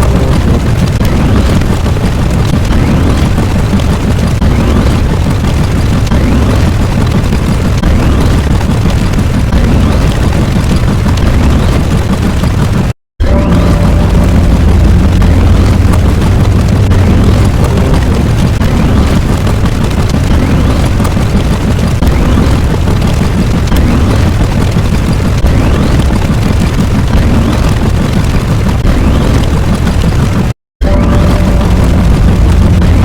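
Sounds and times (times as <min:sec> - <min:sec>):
deep explosion rumble: 0:00.0 - 0:33.0.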